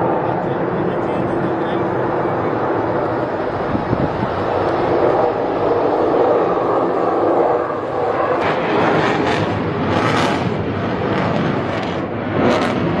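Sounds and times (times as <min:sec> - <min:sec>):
jet aircraft passing overhead: 0:00.0 - 0:13.0.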